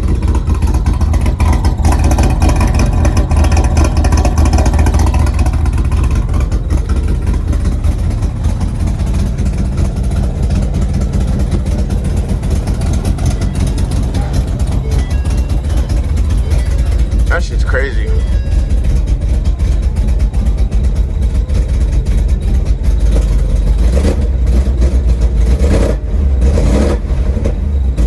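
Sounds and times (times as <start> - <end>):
loud car engine idling: 0.0 - 28.0.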